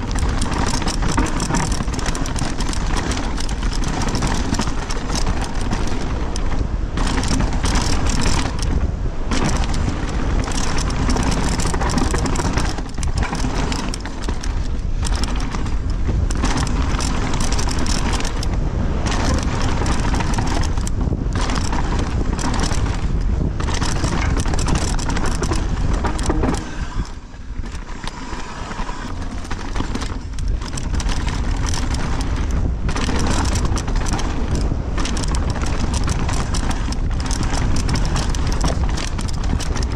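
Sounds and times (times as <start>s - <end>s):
bike chain and frame rattling: 0.0s - 39.9s
tyres rolling over stones: 0.0s - 39.9s
wind on microphone: 0.0s - 39.9s.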